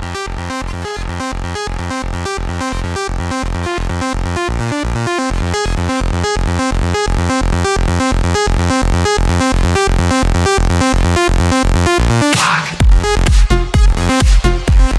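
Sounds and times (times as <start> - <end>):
electronic music with steady beat: 0.0 - 14.9.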